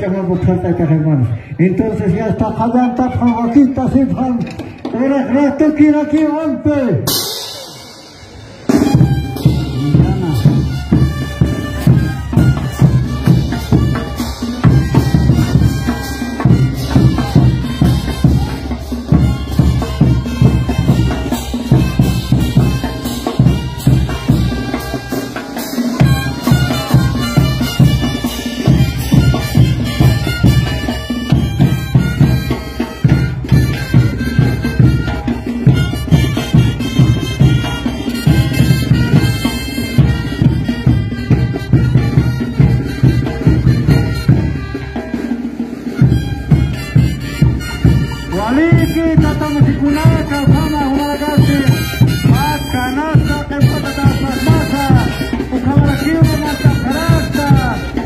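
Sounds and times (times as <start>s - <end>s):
bass drum and cymbal beat: 7.0s - 58.0s
wind instruments melody: 7.1s - 58.0s.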